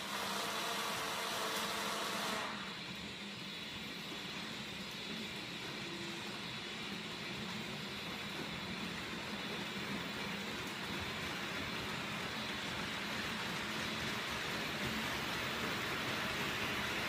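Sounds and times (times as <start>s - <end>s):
model train rumbling on track: 0.0s - 17.0s.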